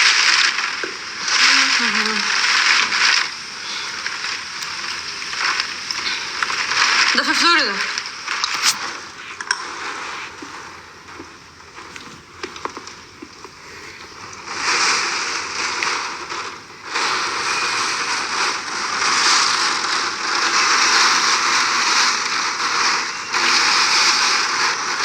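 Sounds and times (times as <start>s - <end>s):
heavy rain pattering: 0.0s - 25.0s.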